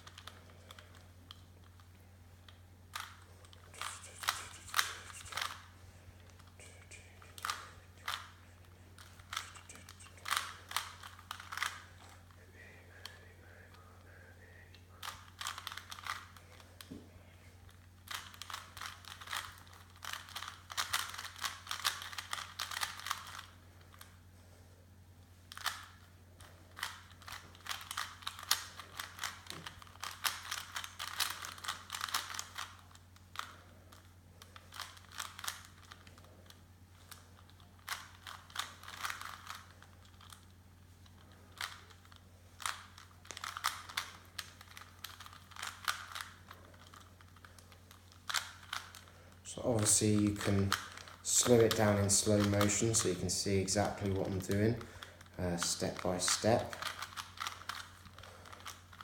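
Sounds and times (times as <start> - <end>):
puzzle cube clicking: 0.0 - 1.8, 2.5 - 12.0, 15.0 - 16.6, 18.0 - 24.1, 26.7 - 40.4, 41.1 - 49.1, 49.8 - 59.0
steady low hum: 0.0 - 59.0.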